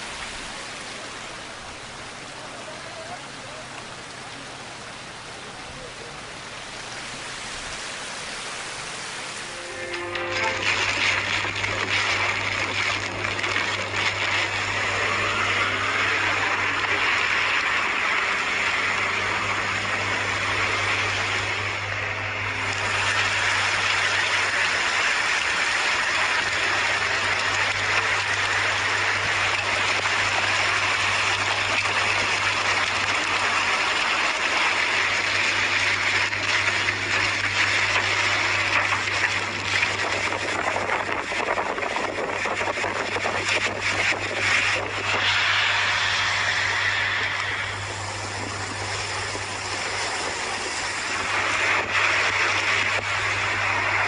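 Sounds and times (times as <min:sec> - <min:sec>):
floodwater rushing: 0:00.0 - 0:54.0
low steady hum: 0:00.0 - 0:54.0.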